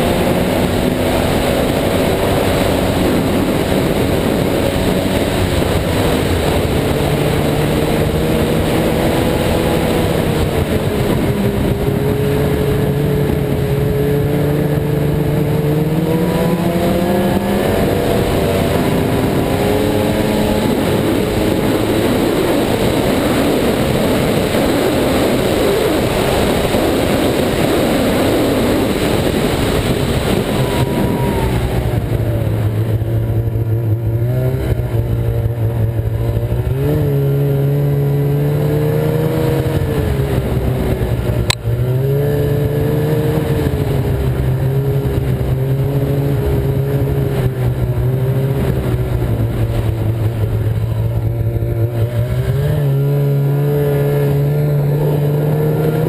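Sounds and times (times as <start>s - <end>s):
snowmobile engine running: 0.0s - 56.0s
track and wind noise: 0.0s - 56.0s.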